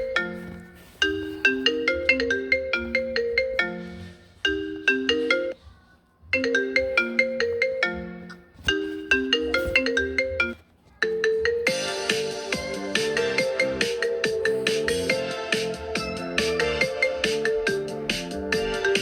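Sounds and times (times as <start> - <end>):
marimba ringtone melody: 0.0 - 5.6, 6.3 - 19.0.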